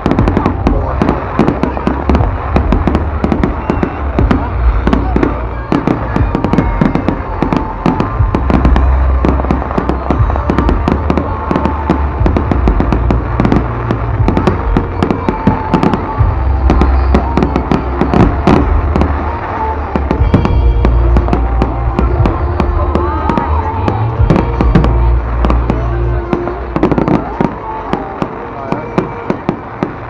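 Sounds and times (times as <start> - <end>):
low rumble: 0.0 - 28.1
fireworks bangs and crackling: 0.0 - 30.0.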